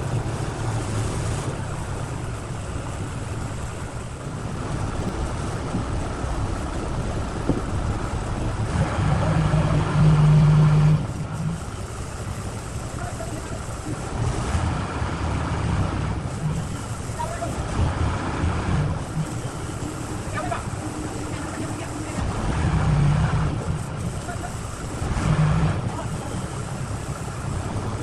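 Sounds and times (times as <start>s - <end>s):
heavy engine droning: 0.0s - 28.0s.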